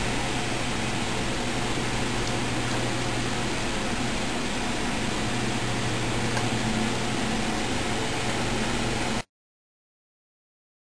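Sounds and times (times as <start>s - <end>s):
low even hum: 0.0s - 9.3s.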